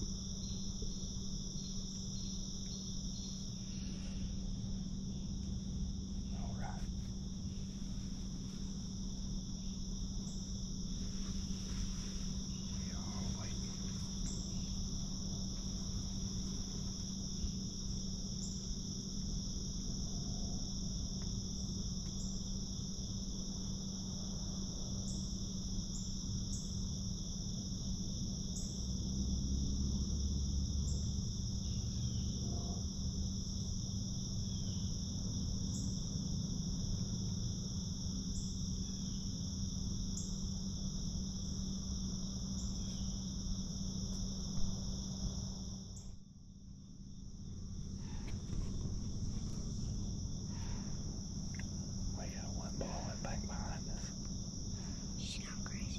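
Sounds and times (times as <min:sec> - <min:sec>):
crickets and insects droning: 0:00.0 - 0:55.9.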